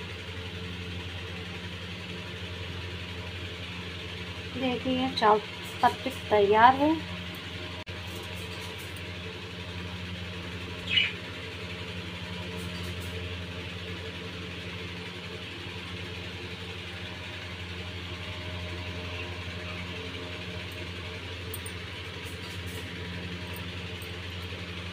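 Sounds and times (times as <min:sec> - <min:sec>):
motor hum: 0:00.0 - 0:24.9.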